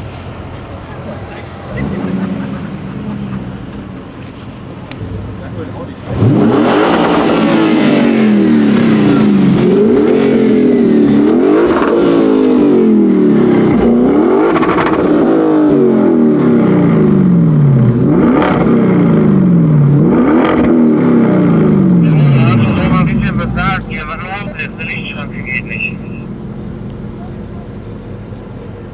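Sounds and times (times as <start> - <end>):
car engine accelerating hard: 0.0 - 28.9
exhaust cracks: 0.0 - 28.9.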